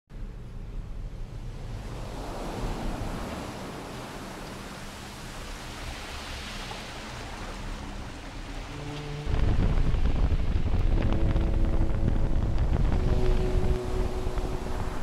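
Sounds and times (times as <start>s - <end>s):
road and wind noise in car: 0.1s - 15.0s.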